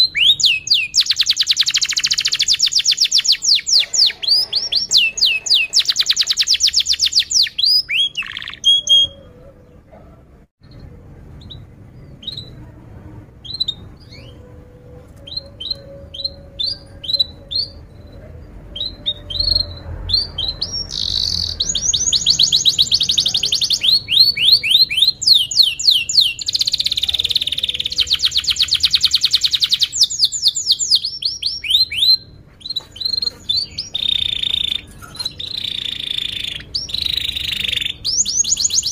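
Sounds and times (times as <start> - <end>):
canary singing trills and chirps: 0.0 - 38.9.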